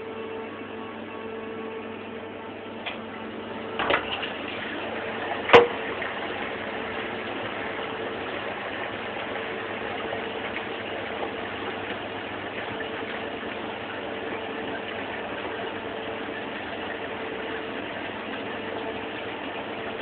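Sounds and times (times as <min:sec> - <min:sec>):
flushing water and pump: 0:00.0 - 0:20.0
machine hum: 0:00.0 - 0:20.0.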